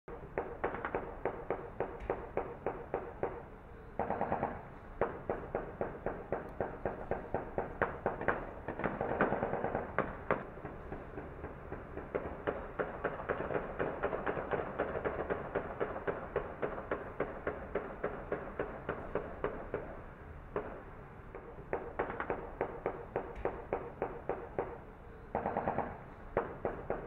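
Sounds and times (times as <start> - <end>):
rapid gunfire: 0.1 - 27.0.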